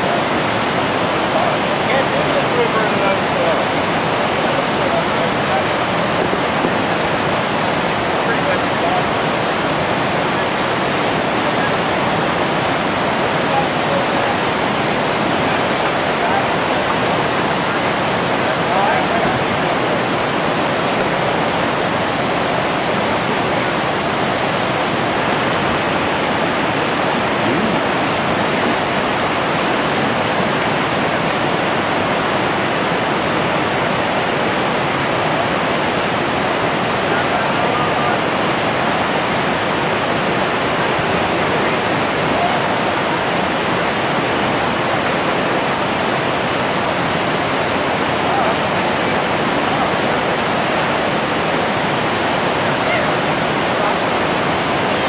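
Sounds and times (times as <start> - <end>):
whitewater rapid rushing: 0.0 - 55.0.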